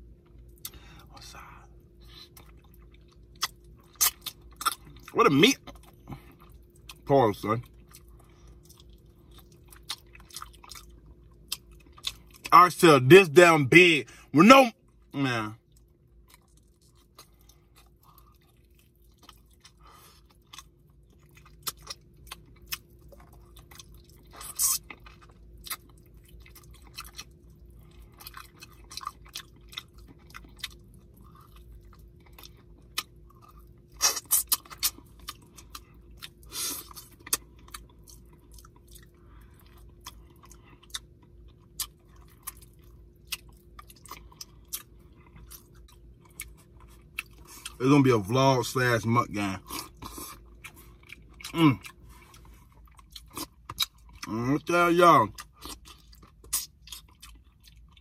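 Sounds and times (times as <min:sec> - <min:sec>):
man chewing: 0:00.0 - 0:12.6, 0:15.7 - 0:47.8, 0:49.4 - 0:54.7, 0:55.3 - 0:58.0.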